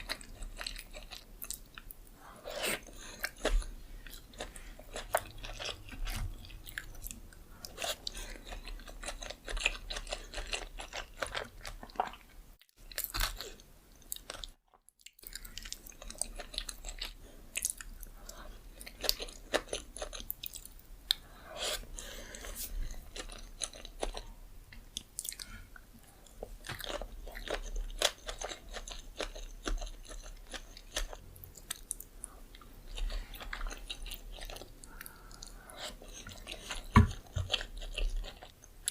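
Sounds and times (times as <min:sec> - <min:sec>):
chewing with wet mouth clicks: 0:03.0 - 0:21.2, 0:23.0 - 0:38.9.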